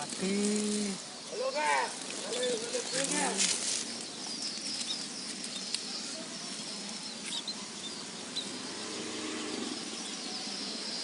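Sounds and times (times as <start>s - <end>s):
sparrows chirping faintly: 0.0s - 11.0s
steady background hiss: 0.0s - 11.0s.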